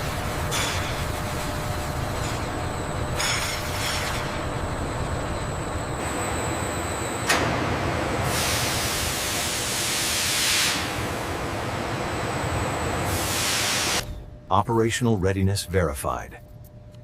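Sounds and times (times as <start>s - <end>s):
industrial machinery rumbling hiss: 0.0s - 14.2s
faint high whine: 0.0s - 17.0s.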